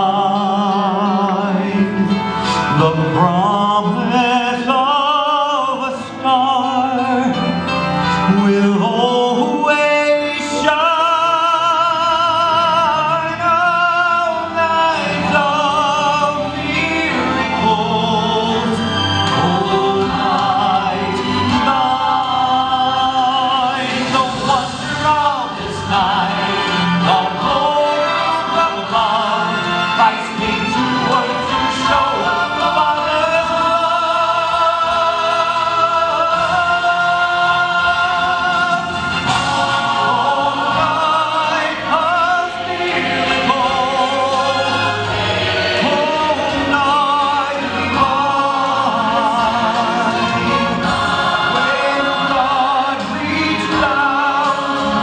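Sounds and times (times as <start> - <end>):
instrumental accompaniment: 0.0 - 55.0
man singing operatically: 0.0 - 55.0.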